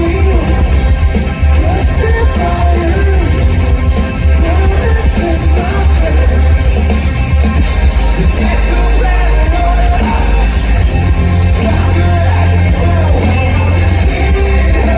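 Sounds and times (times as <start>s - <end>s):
person singing: 0.0s - 6.9s, 8.0s - 14.9s
live rock band playing: 0.0s - 14.9s.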